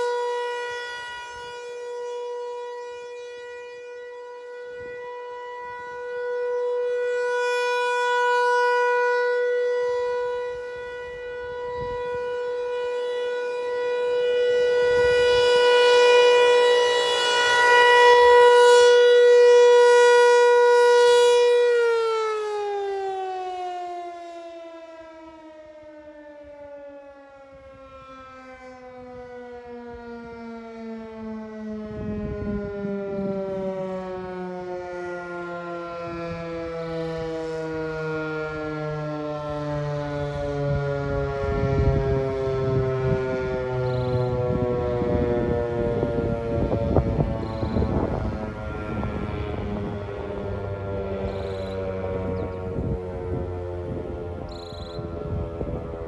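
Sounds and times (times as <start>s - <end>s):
electromechanical siren wailing: 0.0s - 56.0s.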